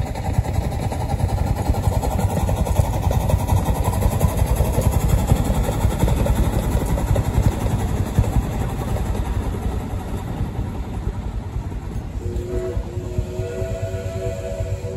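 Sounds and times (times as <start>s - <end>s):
cars rolling on rails: 0.0s - 14.9s
miniature steam train passing: 0.0s - 14.9s.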